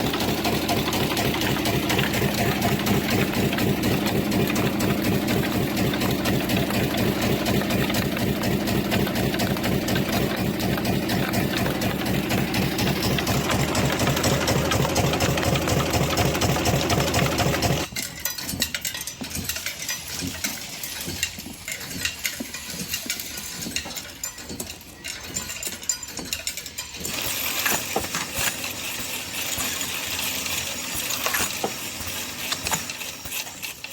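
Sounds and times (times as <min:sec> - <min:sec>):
machinery clattering: 0:00.0 - 0:33.9
metallic clicks and clinks: 0:00.0 - 0:33.9.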